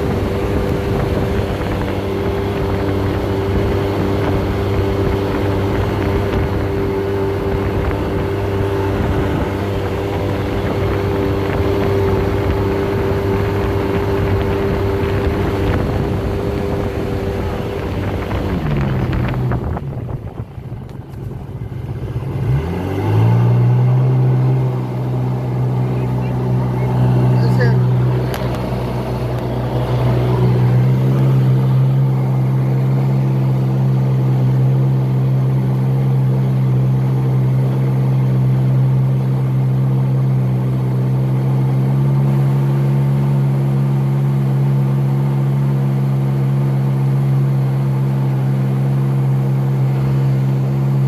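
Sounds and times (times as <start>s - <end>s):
rising tone into steady hum: 0.0s - 51.0s
water rushing under hull: 0.0s - 51.0s
watercraft engine running: 0.0s - 51.0s.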